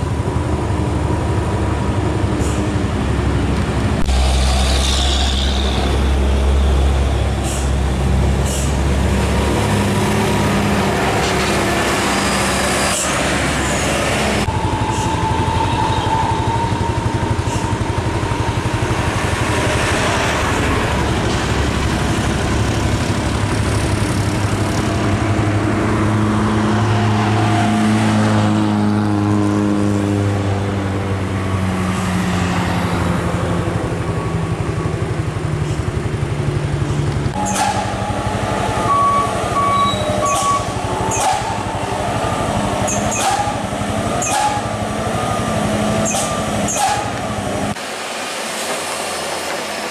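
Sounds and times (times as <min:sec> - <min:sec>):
diesel truck engines running: 0:00.0 - 0:49.9.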